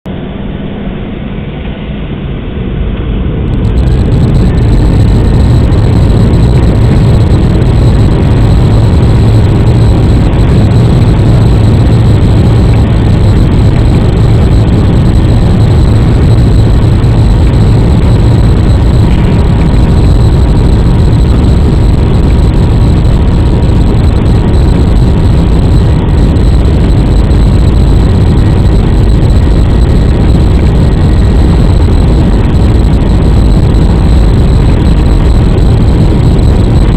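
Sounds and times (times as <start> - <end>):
jet engines roaring in cabin: 0.1 - 36.9.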